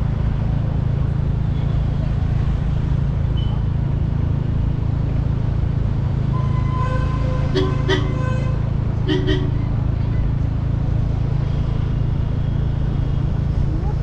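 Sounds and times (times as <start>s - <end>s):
motorcycle riding rumble: 0.0s - 14.0s
road traffic: 0.0s - 14.0s.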